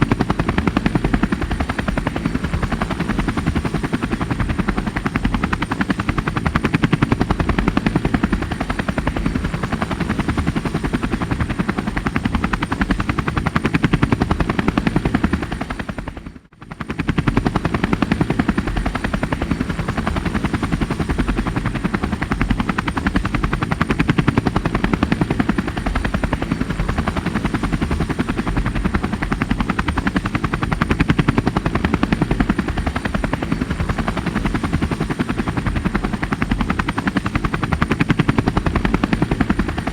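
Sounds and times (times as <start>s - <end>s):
helicopter engine high whine: 0.0s - 39.9s
helicopter rotor blades chopping: 0.0s - 39.9s.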